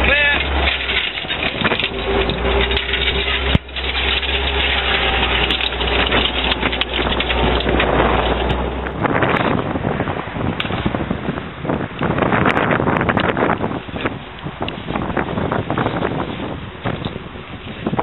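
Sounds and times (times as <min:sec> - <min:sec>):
tank engine droning: 0:00.0 - 0:18.0
wind noise on microphone: 0:00.0 - 0:18.0.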